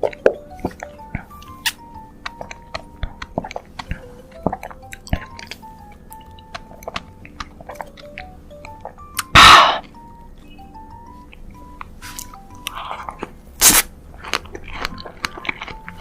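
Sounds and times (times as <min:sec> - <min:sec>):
close chewing with wet mouth clicks: 0:00.0 - 0:10.0, 0:12.2 - 0:16.0.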